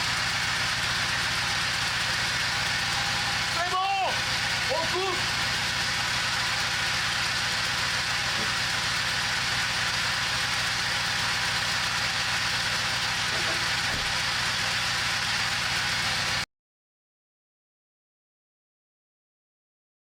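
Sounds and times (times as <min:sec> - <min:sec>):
diesel engine running: 0:00.0 - 0:16.5.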